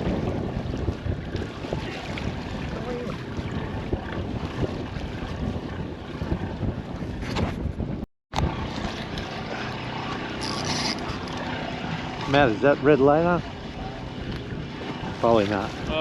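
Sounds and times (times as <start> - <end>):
wind buffeting microphone: 0.0 - 10.0, 11.0 - 16.0
boat rumble: 0.0 - 16.0
water noise: 0.0 - 16.0.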